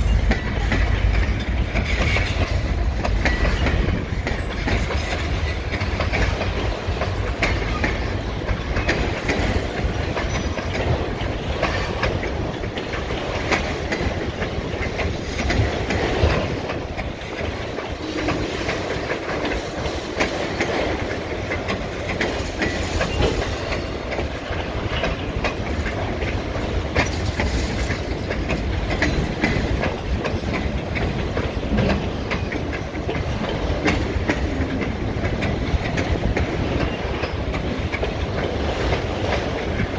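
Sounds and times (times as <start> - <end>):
steel wheels rolling on rail: 0.0 - 39.9
wheels clanking over rail joints: 0.0 - 39.9.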